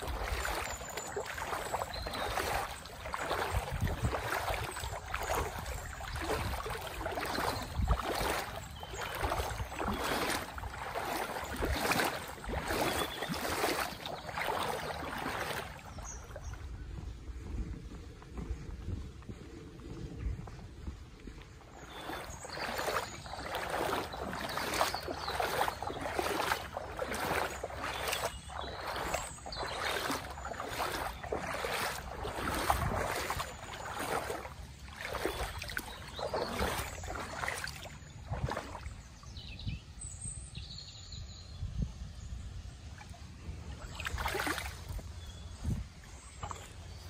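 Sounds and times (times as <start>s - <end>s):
footsteps splashing through water: 0.0s - 40.0s, 42.8s - 47.0s.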